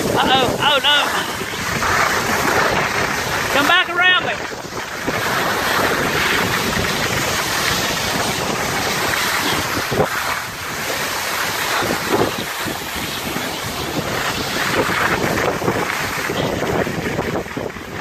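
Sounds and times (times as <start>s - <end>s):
skis scraping snow: 0.0s - 18.0s
wind buffeting microphone: 0.0s - 18.0s.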